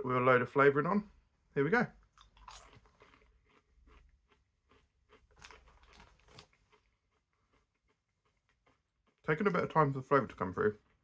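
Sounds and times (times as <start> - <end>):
popcorn being chewed: 2.0 - 11.0.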